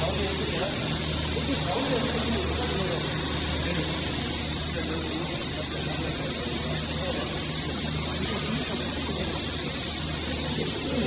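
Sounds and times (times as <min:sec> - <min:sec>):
faint voices: 0:00.0 - 0:11.0
loud high hiss: 0:00.0 - 0:11.0
machinery hum: 0:00.0 - 0:11.0.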